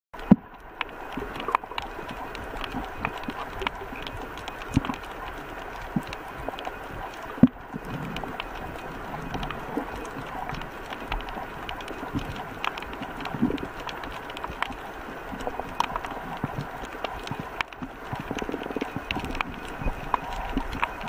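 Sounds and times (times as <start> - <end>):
muffled underwater wash: 0.2 - 21.0.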